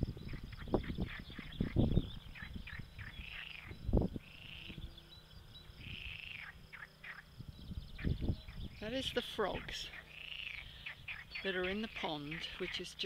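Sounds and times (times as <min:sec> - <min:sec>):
faint engine droning: 0:00.0 - 0:13.0
frogs croaking: 0:00.0 - 0:13.0.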